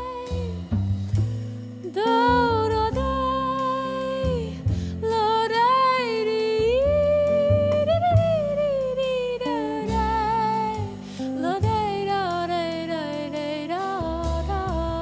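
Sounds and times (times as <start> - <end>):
woman singing jazz melody: 0.0 - 0.7, 1.7 - 15.0
double bass: 0.0 - 15.0
drums: 0.0 - 15.0.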